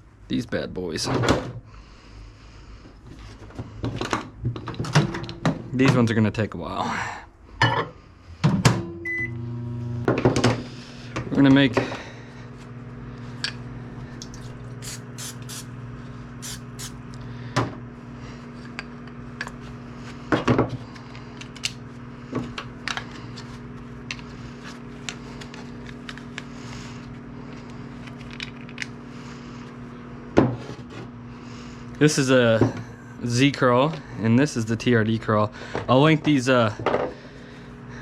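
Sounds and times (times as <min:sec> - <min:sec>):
microwave oven humming: 0:01.2 - 0:38.0.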